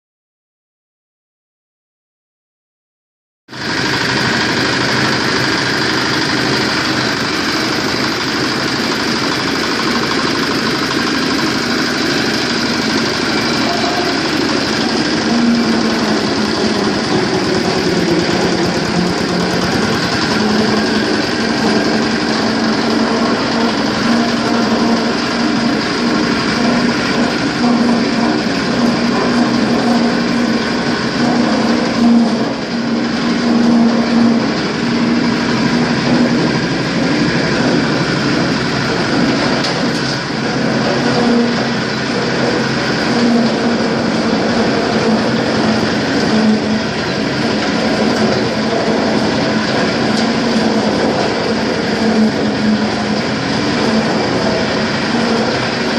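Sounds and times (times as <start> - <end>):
diesel engine running: 3.5 - 55.9
low machine hum: 3.6 - 55.9.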